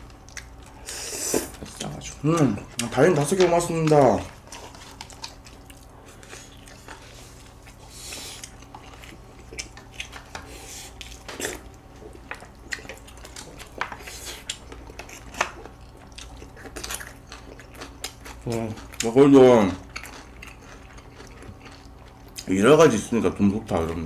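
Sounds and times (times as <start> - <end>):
people chewing and biting: 0.0 - 22.5.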